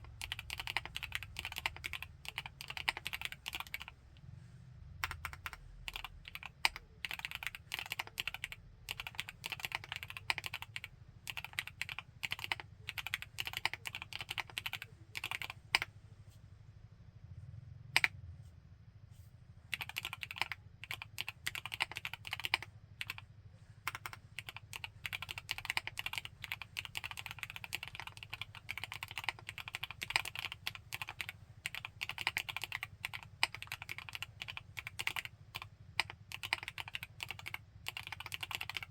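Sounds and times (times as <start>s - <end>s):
mechanical keyboard typing: 0.0s - 4.0s, 5.0s - 15.9s, 19.7s - 23.2s, 23.9s - 38.9s.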